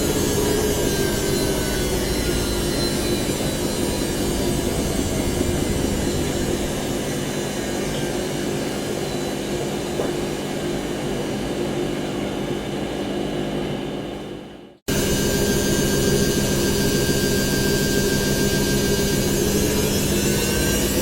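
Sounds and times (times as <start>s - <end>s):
washing machine spinning: 0.0s - 14.3s, 14.9s - 21.0s.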